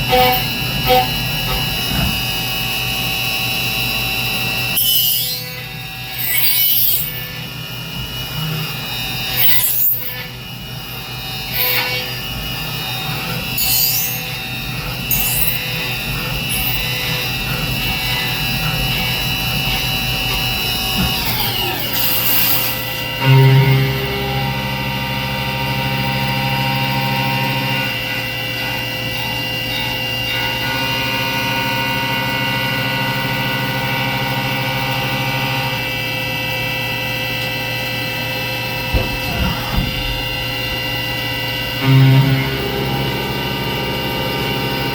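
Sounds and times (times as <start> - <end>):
deeper hum: 0.0 - 36.0, 37.9 - 44.9
milling machine whine: 0.0 - 44.9.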